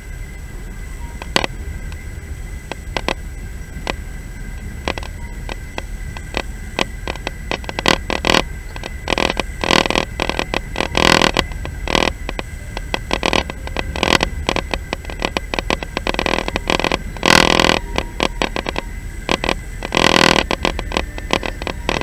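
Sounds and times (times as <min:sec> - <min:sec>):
train rumbling and rattling: 0:00.0 - 0:22.0.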